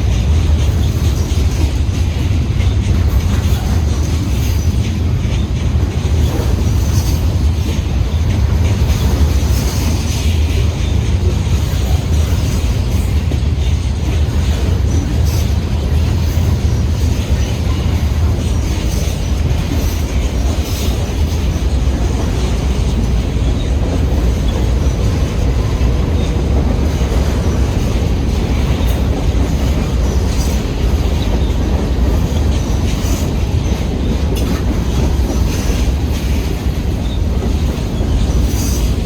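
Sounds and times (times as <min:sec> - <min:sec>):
freight train rumbling: 0:00.0 - 0:39.0
wheels clicking over rail joints: 0:00.0 - 0:39.0.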